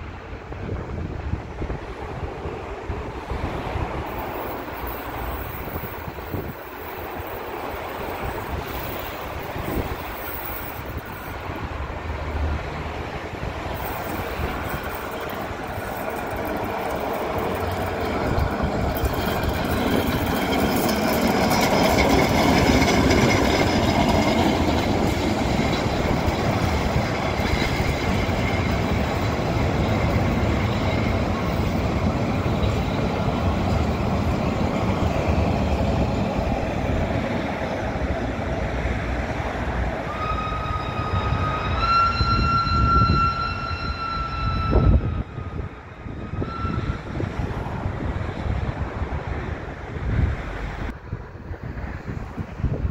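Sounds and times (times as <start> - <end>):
train running on rails: 0.0 - 52.9.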